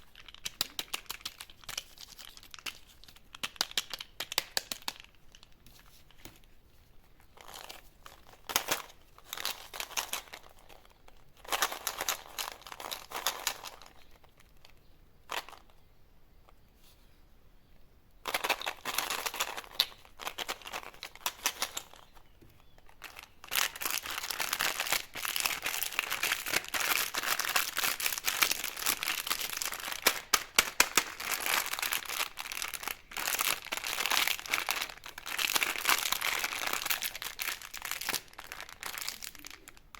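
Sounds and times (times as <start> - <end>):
candy wrappers crinkling: 0.0 - 15.8, 18.2 - 39.9.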